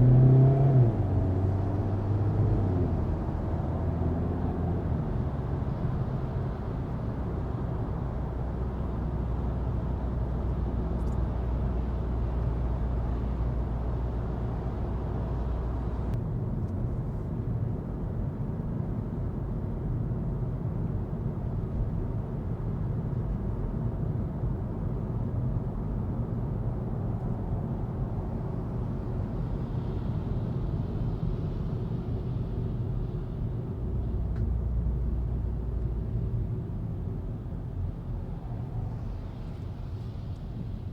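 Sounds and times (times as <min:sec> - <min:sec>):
diesel engine drone in car cabin: 0:00.0 - 0:40.9
road rumble: 0:00.0 - 0:40.9.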